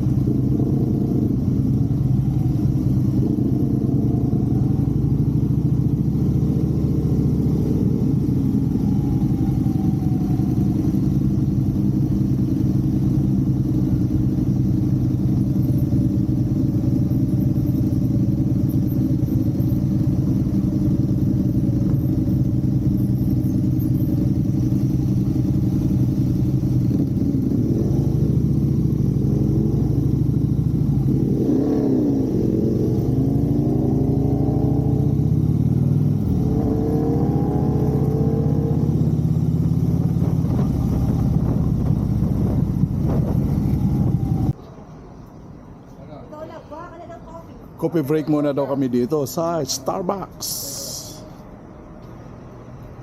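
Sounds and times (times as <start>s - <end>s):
motorcycle engine running: 0.0s - 44.6s.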